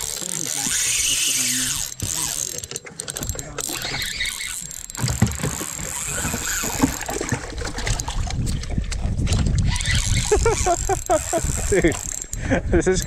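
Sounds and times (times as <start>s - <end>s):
fishing reel gears whirring: 0.0s - 8.3s, 9.2s - 13.0s.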